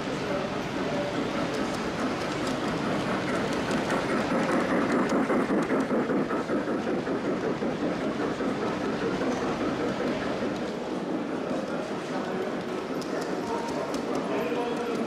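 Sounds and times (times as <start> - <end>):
model train wheels rattling: 0.7 - 15.0.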